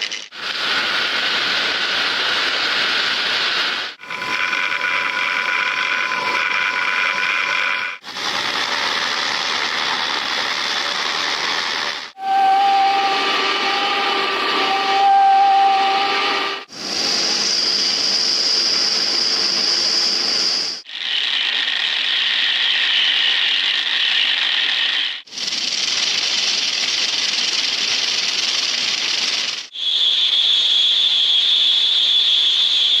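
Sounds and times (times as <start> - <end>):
spinning bearings hissing: 0.0 - 33.0.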